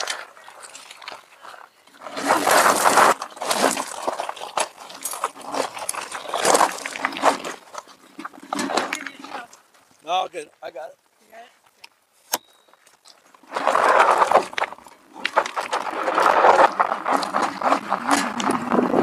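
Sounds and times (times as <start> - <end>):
tyres crunching on gravel: 0.0 - 10.6, 12.5 - 19.0.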